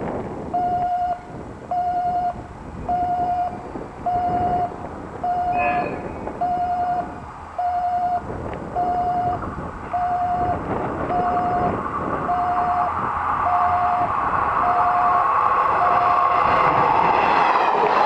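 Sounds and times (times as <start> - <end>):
diesel railcar running: 0.0 - 18.0
level crossing alarm tone: 0.6 - 8.2, 8.8 - 16.4.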